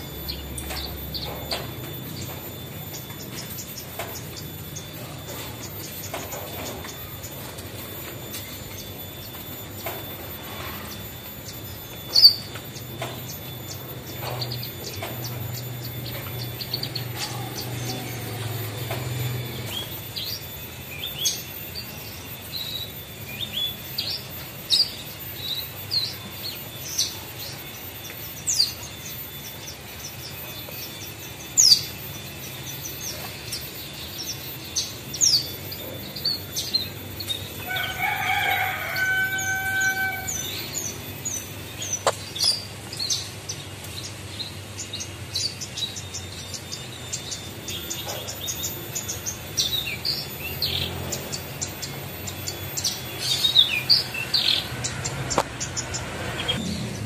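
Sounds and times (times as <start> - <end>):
bird singing high chirps: 0.0 - 57.0.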